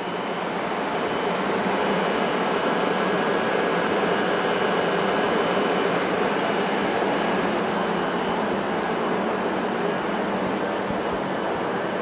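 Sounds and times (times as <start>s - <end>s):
train humming and whirring: 0.0s - 12.0s.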